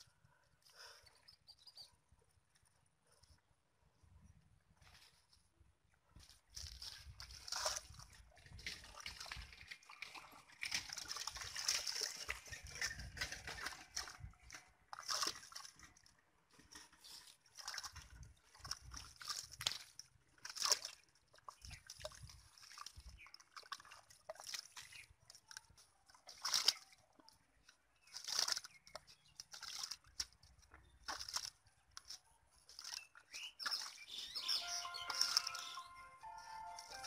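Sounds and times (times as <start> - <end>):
hands sloshing wet mud: 6.2 - 37.0.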